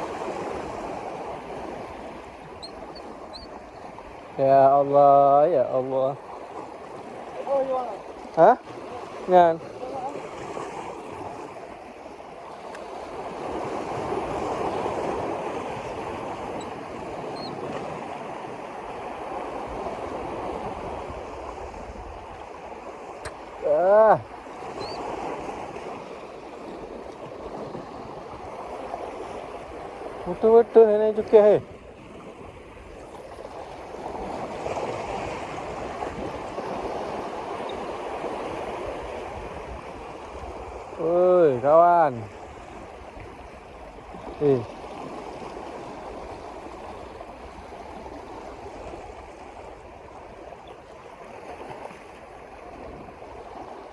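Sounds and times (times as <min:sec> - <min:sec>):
rushing water: 0:00.0 - 0:53.9.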